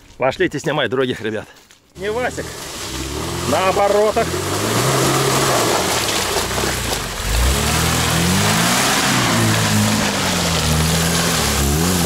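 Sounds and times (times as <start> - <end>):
tyres churning wet mud: 2.0 - 12.0
car engine at high revs: 2.2 - 12.0.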